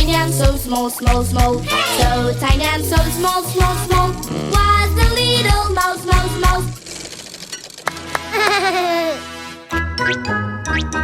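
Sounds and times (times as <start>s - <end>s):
bright children's music: 0.0s - 6.8s, 8.0s - 11.0s.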